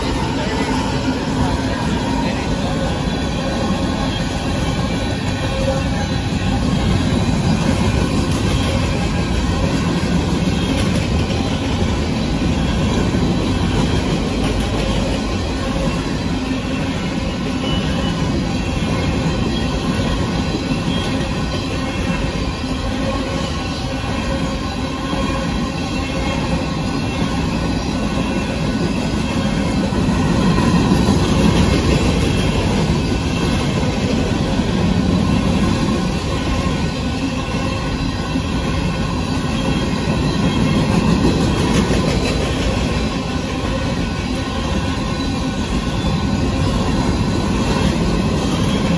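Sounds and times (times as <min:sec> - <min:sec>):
freight train wheels on rails: 0:00.0 - 0:48.9.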